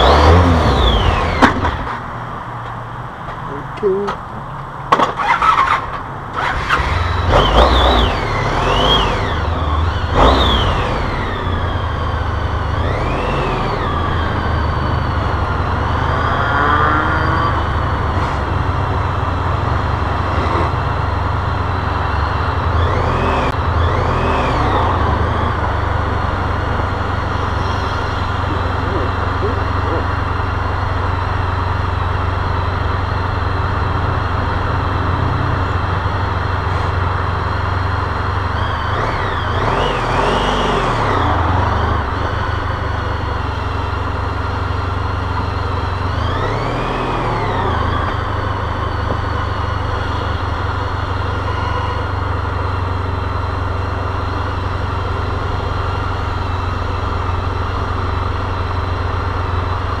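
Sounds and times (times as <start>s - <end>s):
motorcycle engine revving: 0.0s - 2.1s, 5.0s - 60.0s.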